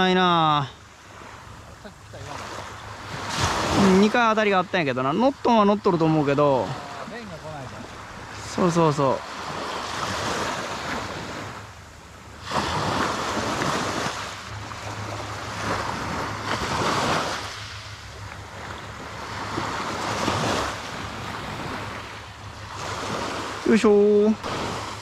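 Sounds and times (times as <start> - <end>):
small waves breaking on beach: 0.0 - 25.0
wind rumbling on microphone: 1.0 - 25.0.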